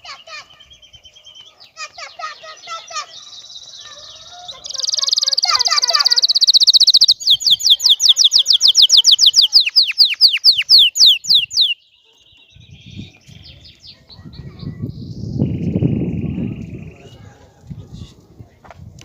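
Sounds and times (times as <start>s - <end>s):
canary singing: 0.0s - 17.2s.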